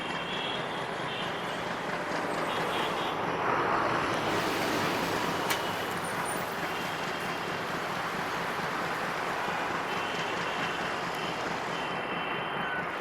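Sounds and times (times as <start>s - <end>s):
passenger train rumbling past: 0.0s - 13.0s.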